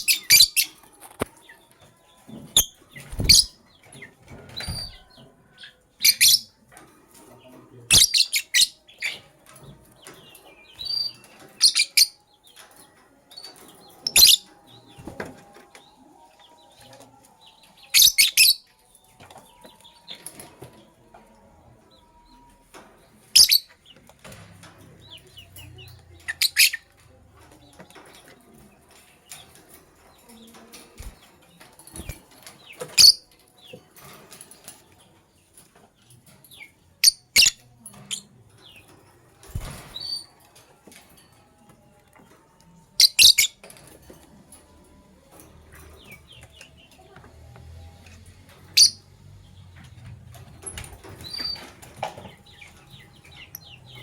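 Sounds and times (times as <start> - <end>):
lovebirds chirping: 0.0 - 6.8, 7.4 - 54.0.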